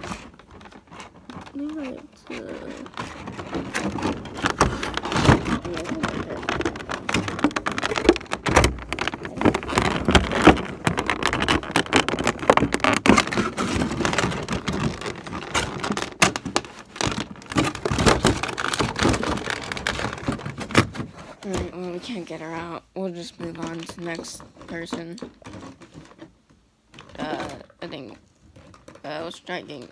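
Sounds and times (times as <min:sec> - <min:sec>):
plastic packaging crackling: 0:00.0 - 0:29.9.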